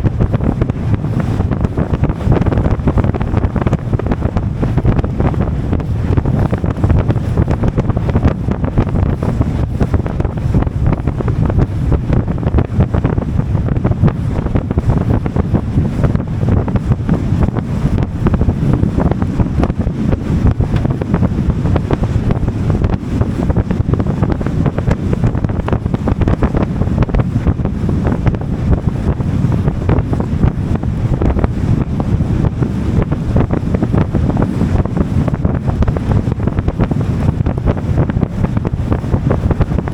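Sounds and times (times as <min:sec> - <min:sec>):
water noise: 0:00.0 - 0:39.9
wind buffeting microphone: 0:00.0 - 0:39.9.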